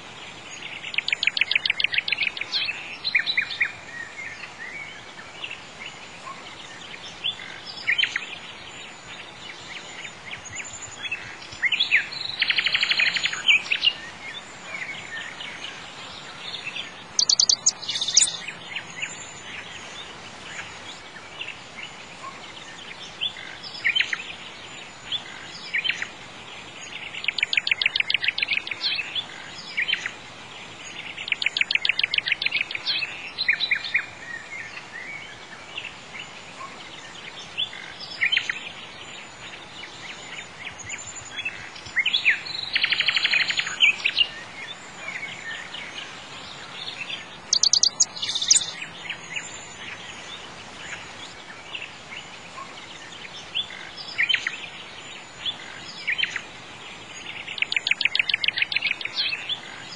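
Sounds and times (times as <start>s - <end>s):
faint hiss: 0.0s - 59.9s
songbirds chirping and singing: 0.0s - 59.9s.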